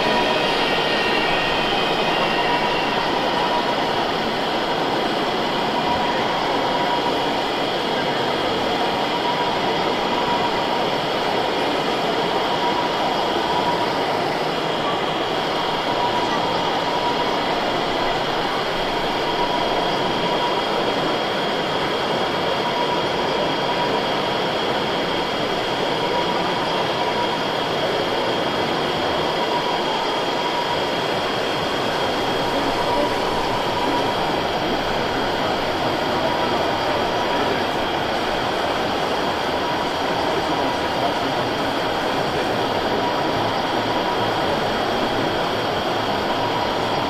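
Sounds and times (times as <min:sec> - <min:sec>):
busy exhibition hall din: 0:00.0 - 0:47.0
thin steady tones: 0:00.0 - 0:47.0.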